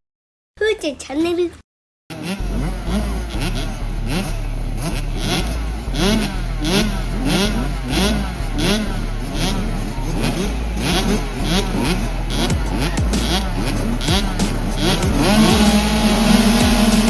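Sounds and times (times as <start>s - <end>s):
motocross bikes revving: 2.1s - 17.0s.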